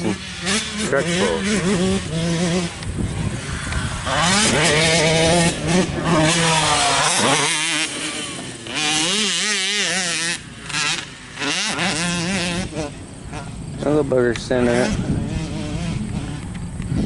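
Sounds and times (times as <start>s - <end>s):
quad bike engines revving: 0.0s - 17.0s.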